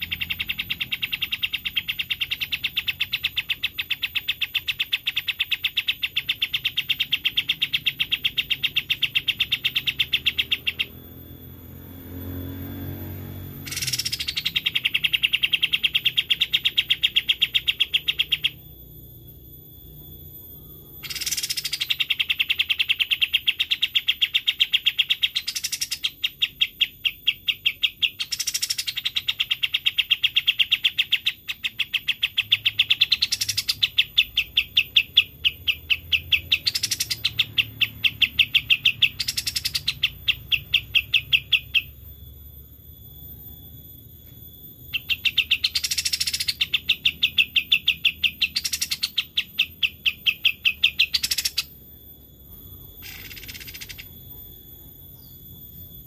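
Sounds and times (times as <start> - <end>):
bird trilling: 0.0 - 56.0.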